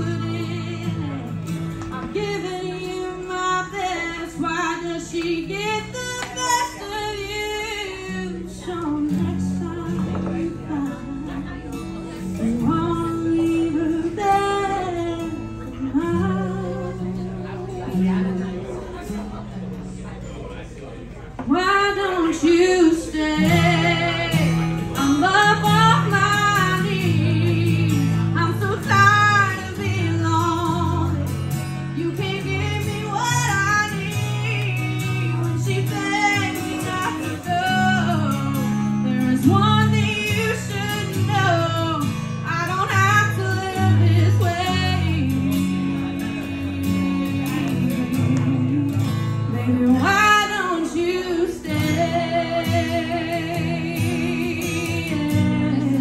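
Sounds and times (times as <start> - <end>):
woman singing a country ballad: 0.0 - 19.2, 21.4 - 56.0.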